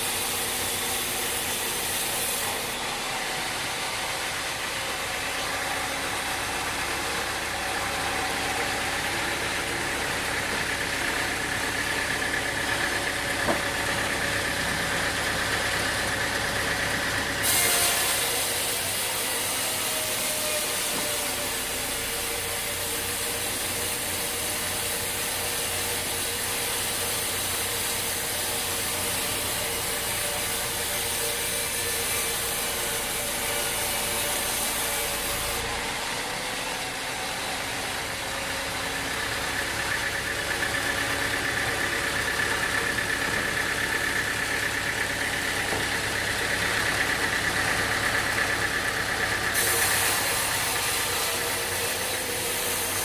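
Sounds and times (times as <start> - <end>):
sawmill machinery droning: 0.0 - 53.0.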